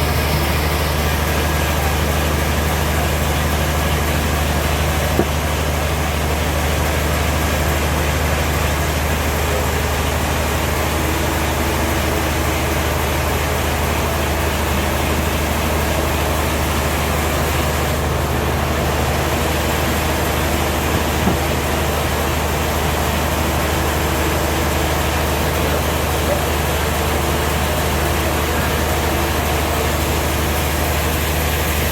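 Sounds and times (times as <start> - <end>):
sawmill machinery running: 0.0 - 31.9.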